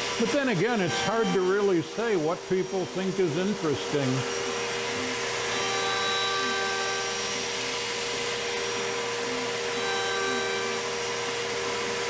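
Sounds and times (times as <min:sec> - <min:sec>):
router humming: 0:00.0 - 0:12.0
shop vacuum running: 0:00.0 - 0:12.0.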